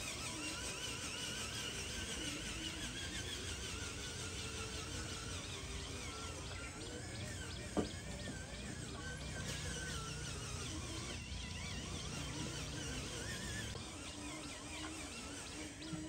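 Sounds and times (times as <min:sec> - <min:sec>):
birds chirping: 0:00.0 - 0:16.0
insects buzzing: 0:00.0 - 0:16.0.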